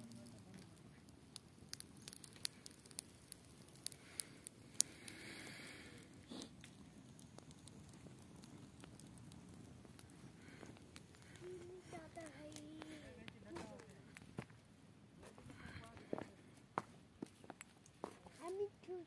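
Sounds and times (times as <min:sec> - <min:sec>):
campfire crackling: 0:00.0 - 0:19.0
faint low background hush: 0:00.0 - 0:19.0.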